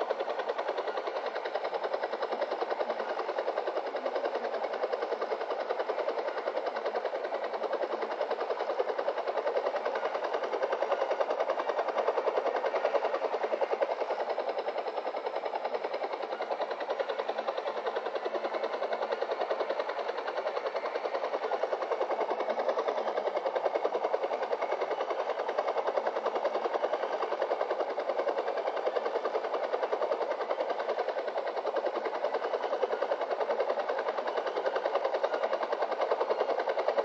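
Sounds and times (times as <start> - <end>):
helicopter rotor chopping: 0.0 - 37.0.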